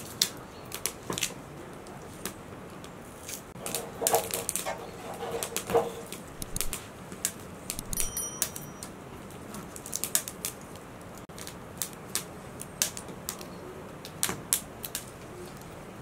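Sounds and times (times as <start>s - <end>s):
wood fire crackling and popping: 0.0s - 15.2s.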